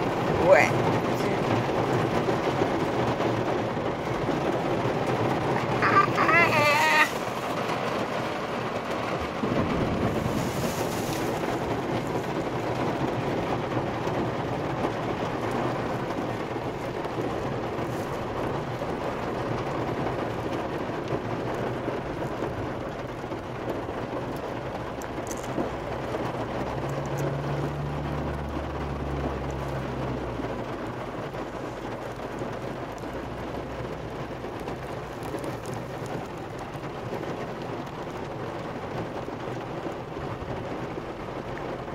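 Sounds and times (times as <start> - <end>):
heavy rain on car roof: 0.0 - 41.9.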